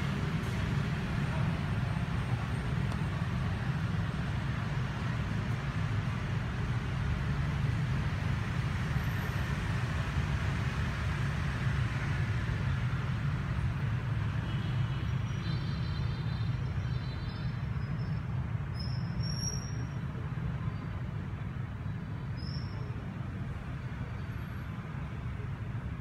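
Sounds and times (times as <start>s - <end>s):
motor traffic rumble: 0.0s - 26.0s.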